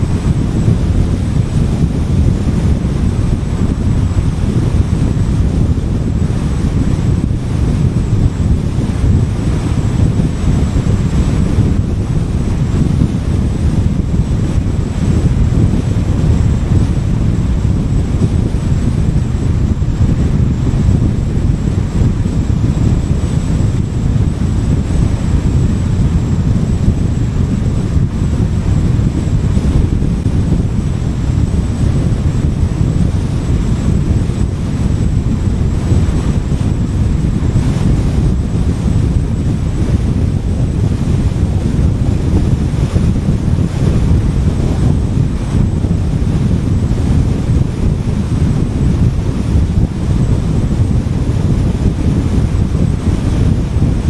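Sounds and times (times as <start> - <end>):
car road and wind noise: 0.0 - 54.0.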